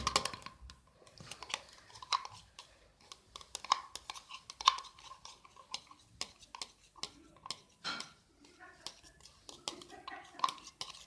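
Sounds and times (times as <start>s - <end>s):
liquid being stirred: 0.0s - 11.0s
stirrer tapping container: 0.0s - 11.0s.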